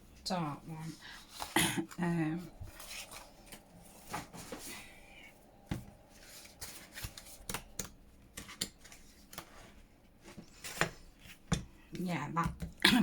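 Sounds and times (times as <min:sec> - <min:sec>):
book pages rustling: 0:00.7 - 0:11.8.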